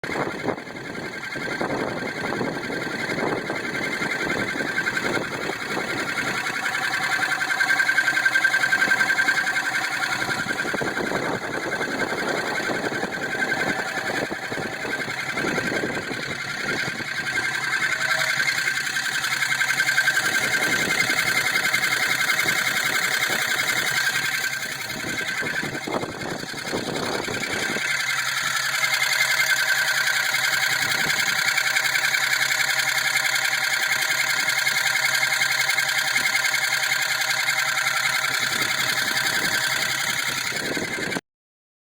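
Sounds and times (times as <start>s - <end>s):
car engine running: 0.0s - 41.2s
rapid engine clicking: 0.0s - 41.2s.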